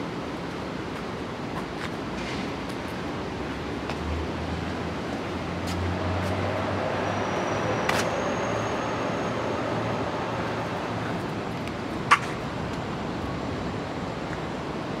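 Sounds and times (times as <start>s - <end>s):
city street background noise: 0.0s - 15.0s.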